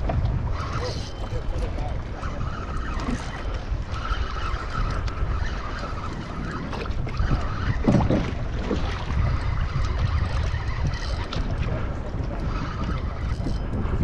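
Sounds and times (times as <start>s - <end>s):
water splashing against kayak hull: 0.0s - 14.0s
wind buffeting microphone: 0.0s - 14.0s.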